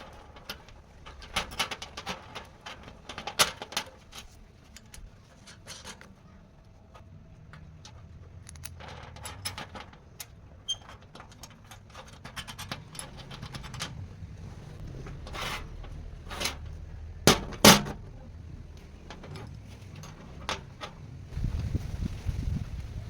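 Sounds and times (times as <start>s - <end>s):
metal tools clinking and scraping: 0.0s - 21.0s.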